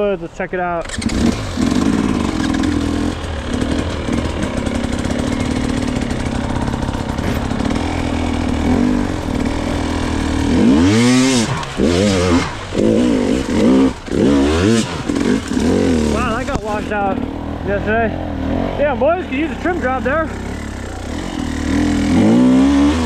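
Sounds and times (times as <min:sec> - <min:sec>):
dirt bike engine revving: 0:00.8 - 0:23.0.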